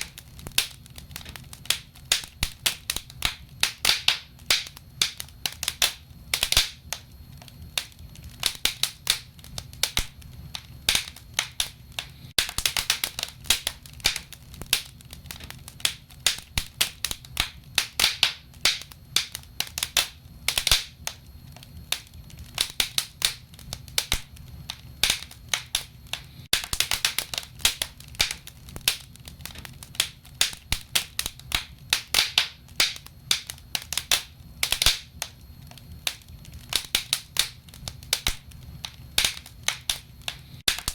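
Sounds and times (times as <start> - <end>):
low rumble of burning logs: 0.0 - 40.9
wood fire crackling and popping: 0.0 - 40.9.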